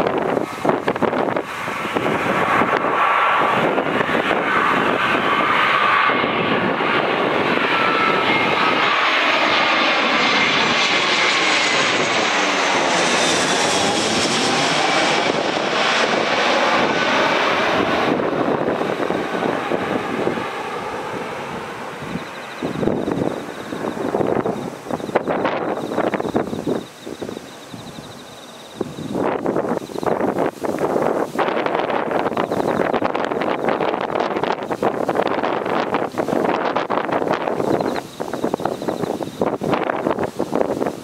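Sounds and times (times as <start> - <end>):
jet airliner flying overhead: 0.0 - 41.0.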